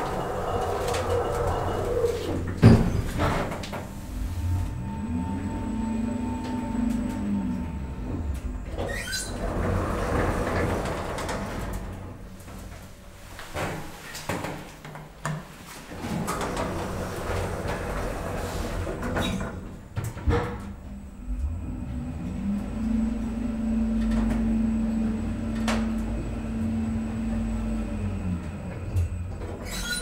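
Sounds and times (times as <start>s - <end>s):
elevator travelling rumble and hum: 0.0s - 14.1s, 15.8s - 30.0s
elevator doors closing with knock: 0.0s - 14.8s, 15.4s - 30.0s.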